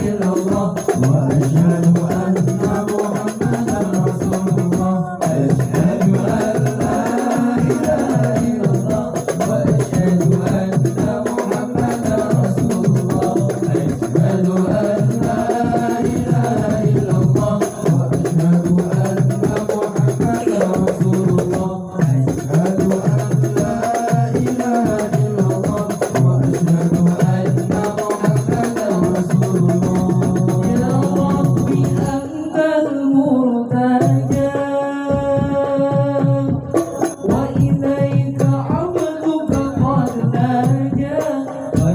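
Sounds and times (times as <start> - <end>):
frame drum percussion: 0.0 - 32.5, 34.0 - 41.9
devotional singing: 0.0 - 41.9.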